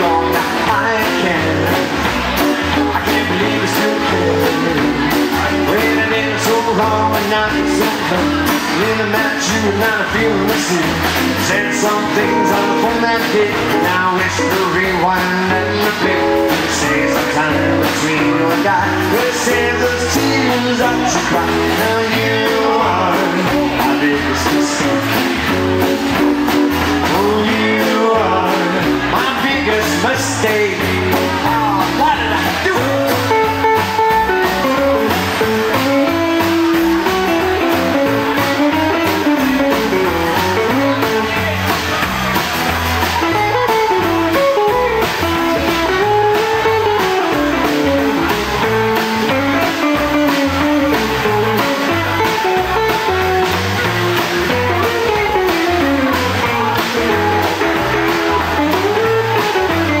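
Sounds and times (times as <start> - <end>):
drums: 0.0 - 60.0
electric guitar lead: 0.0 - 60.0
strummed acoustic guitar: 0.0 - 60.0
upright bass: 0.0 - 60.0.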